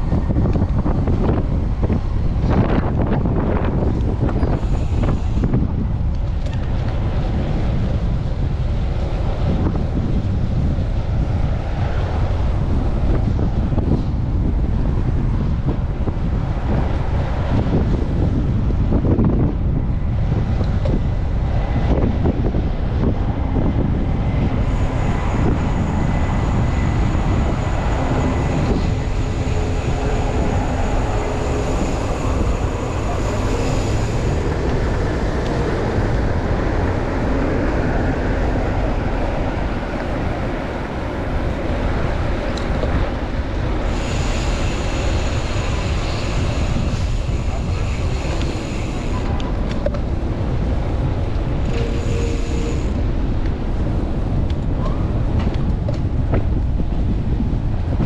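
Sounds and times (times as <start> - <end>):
faint street traffic: 0.0 - 58.0
wind buffeting microphone: 0.0 - 58.0.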